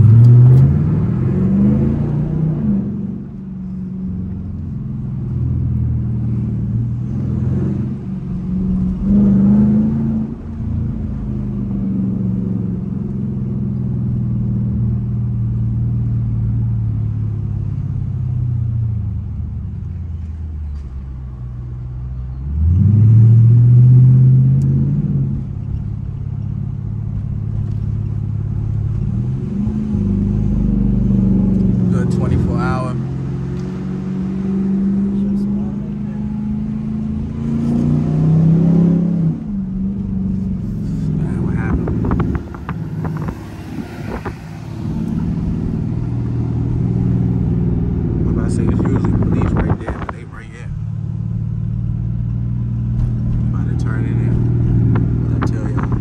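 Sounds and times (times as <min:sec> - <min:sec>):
car exhaust drone from inside: 0:00.0 - 0:56.0.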